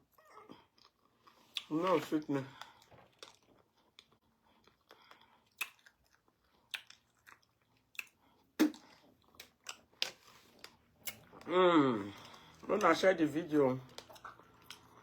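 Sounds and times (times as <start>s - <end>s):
wet chewing and mouth smacks: 0.4s - 13.0s, 13.9s - 15.0s.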